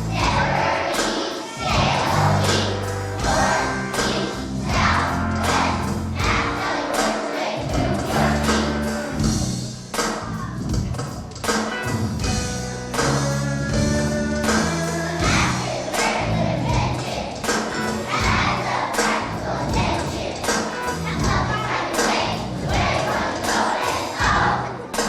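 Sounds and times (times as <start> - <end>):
children's choir singing: 0.0 - 9.5, 14.4 - 25.0
instrumental accompaniment with beat: 0.0 - 25.0.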